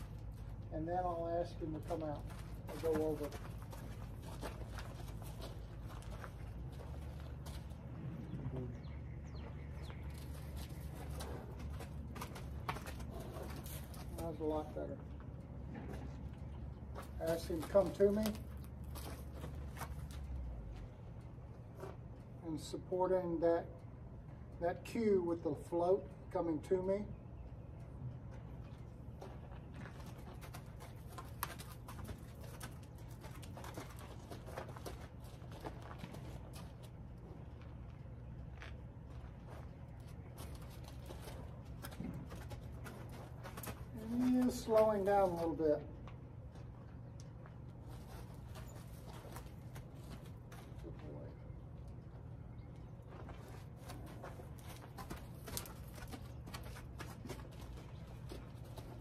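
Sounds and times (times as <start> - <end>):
horse hooves on dirt: 0.0 - 26.4, 27.0 - 59.0.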